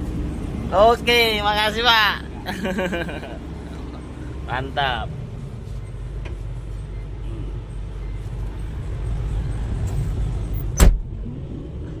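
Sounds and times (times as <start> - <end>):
excavator diesel engine rumbling: 0.0 - 12.0.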